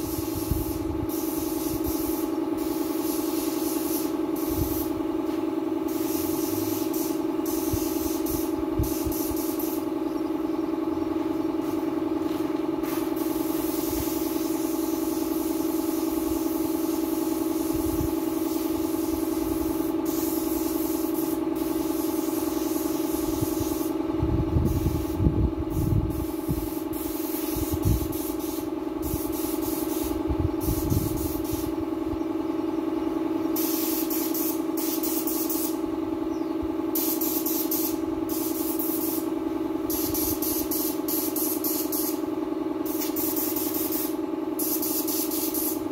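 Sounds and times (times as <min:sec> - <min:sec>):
paint spray gun hissing: 0:00.0 - 0:10.5, 0:11.3 - 0:24.0, 0:24.6 - 0:31.8, 0:33.4 - 0:36.0, 0:36.8 - 0:45.9
steady machine hum: 0:00.0 - 0:45.9.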